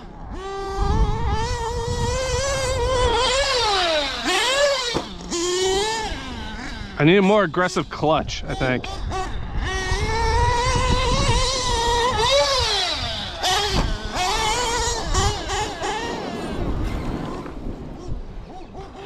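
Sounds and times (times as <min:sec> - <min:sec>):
nitro engine revving: 0:00.0 - 0:19.0.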